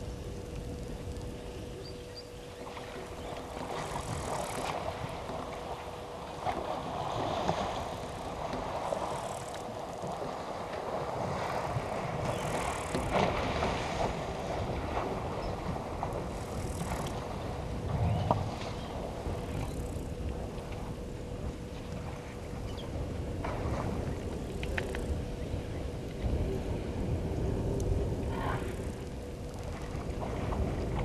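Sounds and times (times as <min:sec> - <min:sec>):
water splashing and sloshing: 0:02.4 - 0:31.0.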